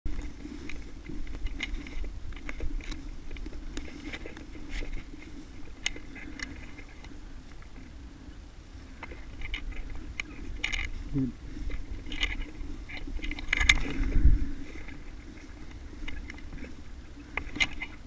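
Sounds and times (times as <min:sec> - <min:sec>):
gear rattling: 0:00.1 - 0:08.0, 0:09.0 - 0:18.0
footsteps crunching: 0:00.1 - 0:18.0
low steady rumble: 0:00.1 - 0:18.0.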